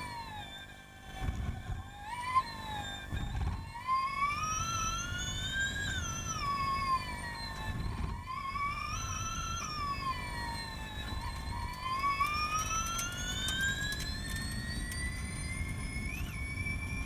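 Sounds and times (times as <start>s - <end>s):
electric car drivetrain whine: 0.0s - 17.0s.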